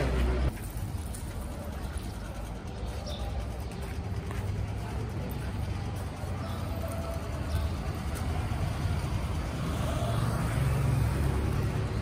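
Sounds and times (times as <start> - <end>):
passing vehicle rumble: 0.0 - 12.0.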